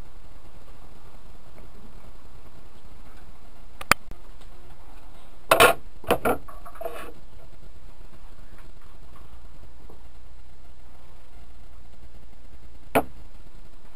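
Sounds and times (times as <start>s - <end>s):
steady background noise: 0.0s - 13.9s.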